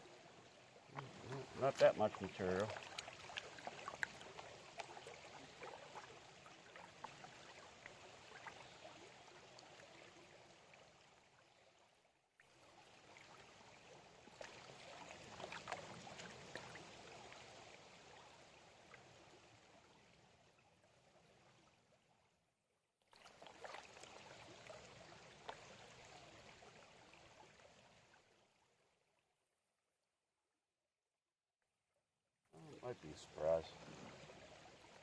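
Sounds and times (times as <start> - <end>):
water sloshing and trickling: 0.0 - 29.6, 32.6 - 35.0.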